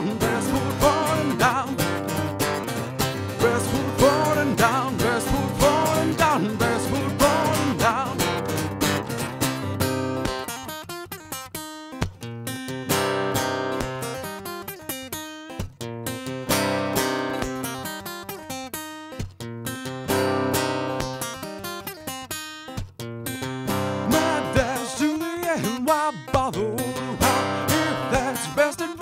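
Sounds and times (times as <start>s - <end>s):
acoustic guitar strumming: 0.0s - 29.0s
sliding guitar melody line: 0.0s - 29.0s.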